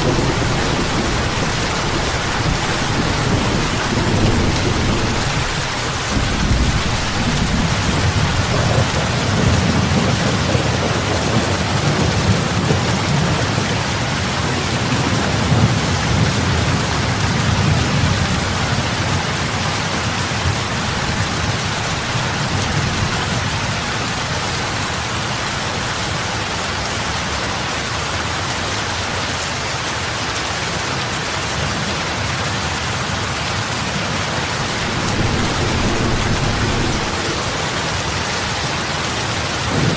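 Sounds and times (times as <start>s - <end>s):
heavy rain on water: 0.0s - 39.9s.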